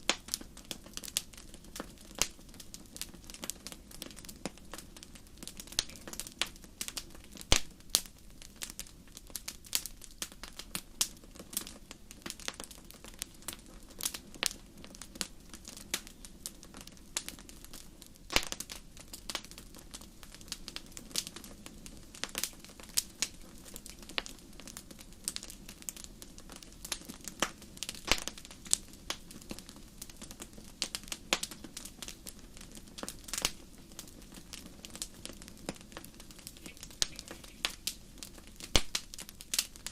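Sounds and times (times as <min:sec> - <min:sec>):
hiss of burning: 0:00.0 - 0:39.9
wood fire crackling: 0:00.0 - 0:39.9.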